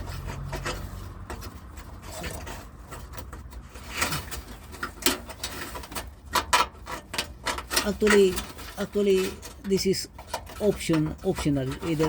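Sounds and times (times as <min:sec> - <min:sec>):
metallic clicks and rattles: 0:00.0 - 0:12.0.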